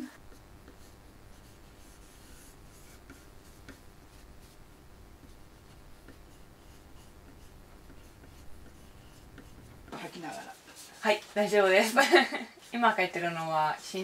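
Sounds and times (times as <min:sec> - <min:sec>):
low room hum: 0:00.0 - 0:14.0
pencil scratching on paper: 0:00.2 - 0:04.6, 0:05.2 - 0:14.0.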